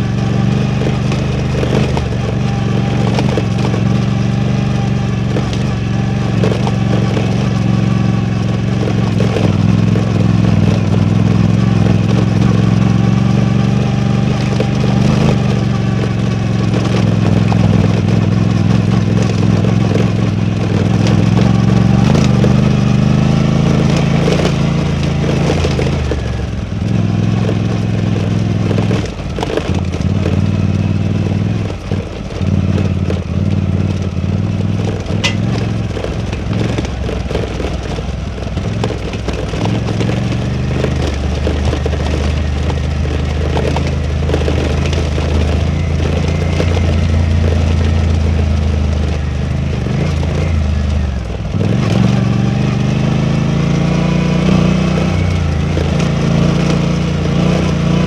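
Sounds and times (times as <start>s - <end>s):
motorcycle engine running: 0.0s - 58.0s
knocks and clatter: 0.4s - 58.0s.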